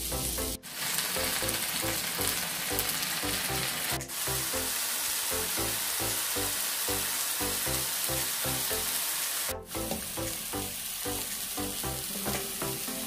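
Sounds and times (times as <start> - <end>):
background music: 0.0 - 13.0
vegetables sizzling in oil: 0.0 - 13.0.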